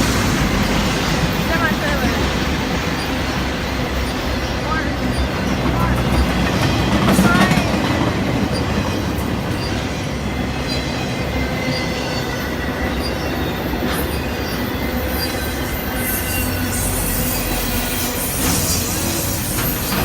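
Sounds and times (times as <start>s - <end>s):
train wheels rumbling on rails: 0.0s - 20.0s
wheel squeal: 2.8s - 20.0s.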